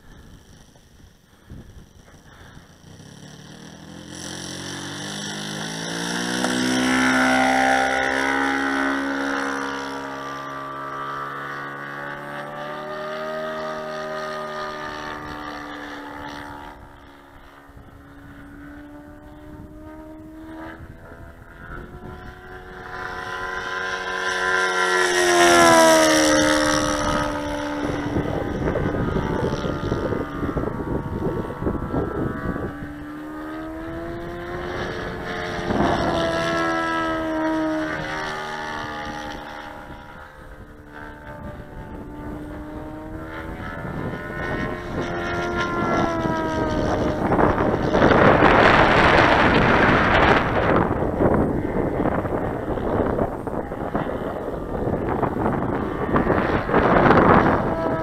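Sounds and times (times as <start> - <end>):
model airplane engine passing: 0.0 - 58.0.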